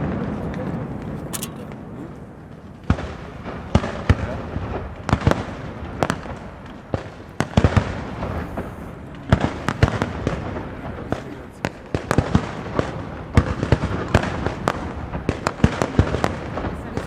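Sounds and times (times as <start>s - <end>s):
fireworks bursting: 0.0s - 17.0s
rumble and hiss: 0.0s - 17.0s.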